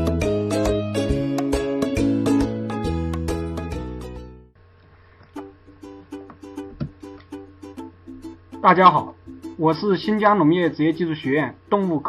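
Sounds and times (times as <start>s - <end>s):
plucked-string instrumental music: 0.0s - 4.5s, 5.4s - 12.0s.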